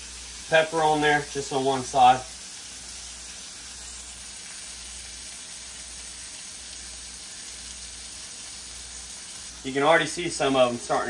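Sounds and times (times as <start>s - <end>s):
fish searing in butter: 0.0s - 11.0s.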